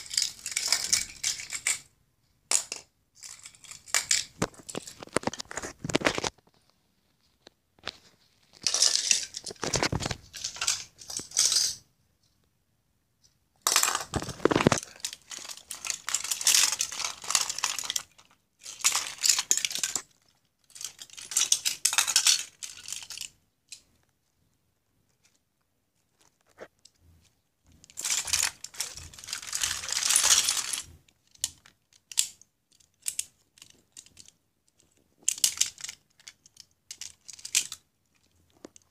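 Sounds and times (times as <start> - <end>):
toy cars clinking on wooden floor: 0.0 - 1.9, 2.5 - 6.3, 8.5 - 11.8, 13.6 - 23.9, 26.9 - 38.9.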